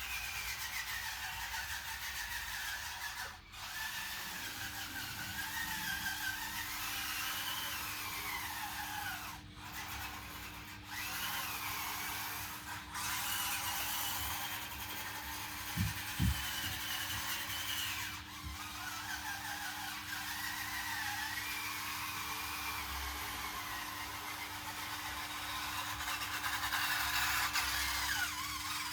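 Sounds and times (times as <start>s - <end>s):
small electric motors whining: 0.0s - 28.9s.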